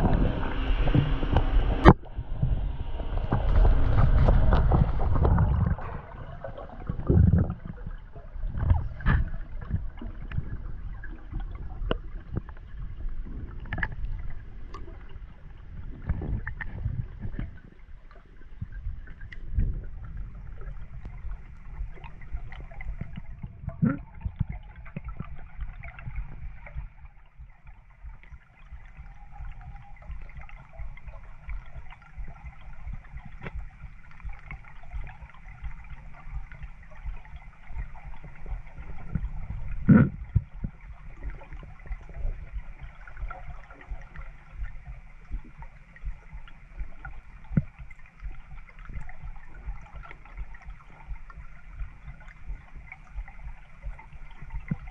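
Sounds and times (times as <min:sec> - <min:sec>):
underwater clicks and knocks: 0:00.0 - 0:54.9
underwater rumble of water: 0:00.0 - 0:54.9.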